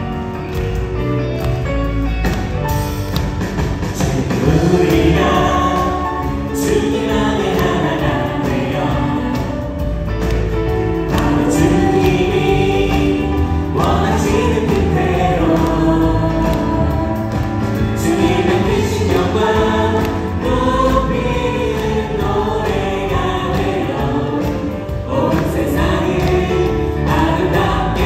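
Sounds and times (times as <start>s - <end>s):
worship band playing: 0.0s - 28.0s
group of singers singing: 3.8s - 28.0s.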